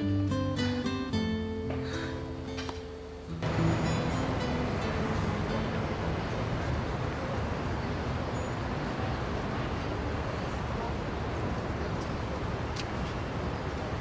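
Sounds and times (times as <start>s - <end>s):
road traffic rumble: 0.5s - 14.0s.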